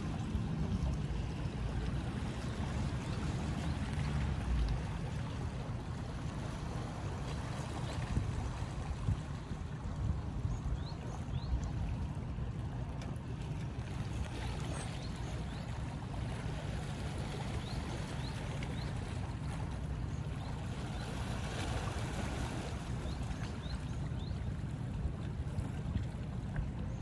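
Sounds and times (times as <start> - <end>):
waves lapping against rocks: 0.0 - 27.0.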